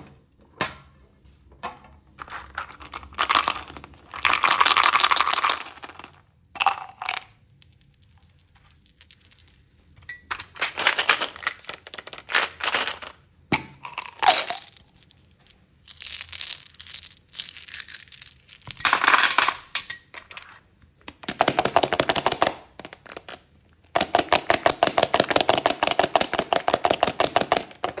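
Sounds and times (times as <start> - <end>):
candy crackling and crunching: 2.2 - 13.2, 13.8 - 19.8, 21.1 - 28.0.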